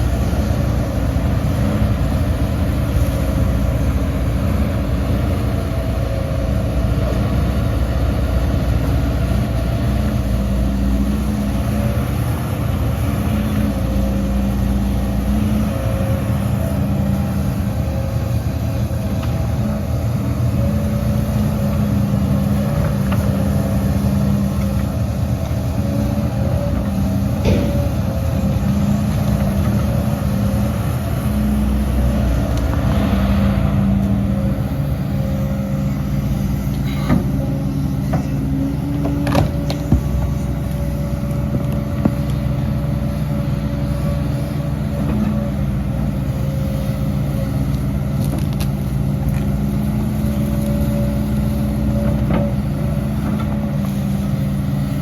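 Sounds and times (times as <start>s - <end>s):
diesel earthmoving machinery running: 0.0s - 55.0s.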